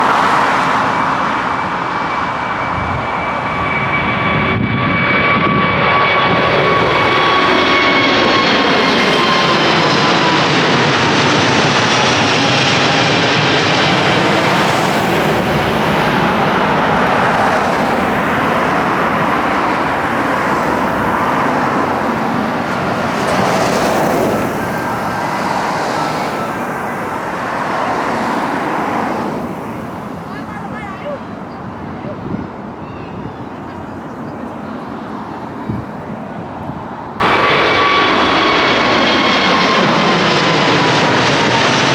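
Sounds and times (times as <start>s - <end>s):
jet airliner engine roar: 0.0s - 41.9s.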